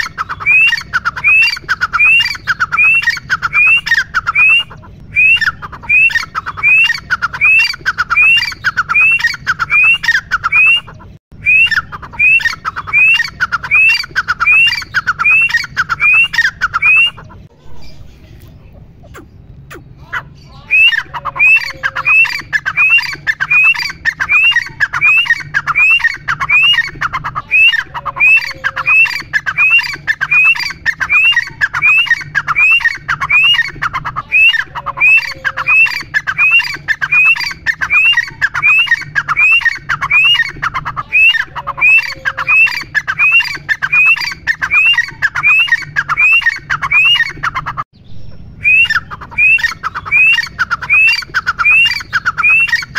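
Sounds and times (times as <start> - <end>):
francolin calling: 0.0 - 52.9.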